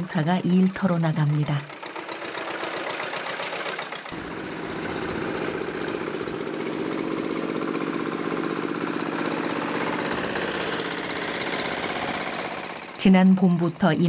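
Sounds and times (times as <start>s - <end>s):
power tiller diesel engine chugging: 0.0s - 14.0s.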